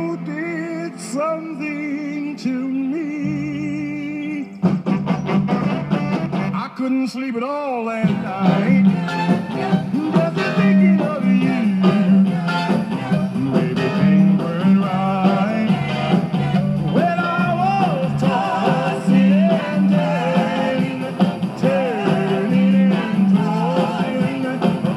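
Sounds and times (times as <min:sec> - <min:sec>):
song with singing over bass line: 0:00.0 - 0:24.9.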